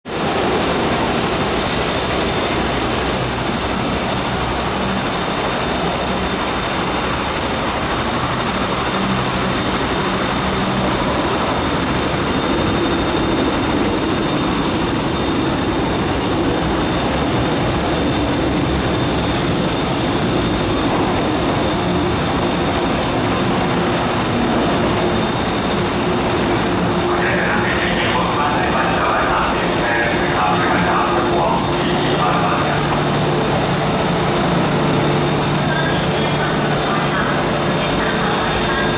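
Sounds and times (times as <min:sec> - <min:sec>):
steady train hum: 0:00.0 - 0:38.9
train wheel and rail noise: 0:00.0 - 0:38.9.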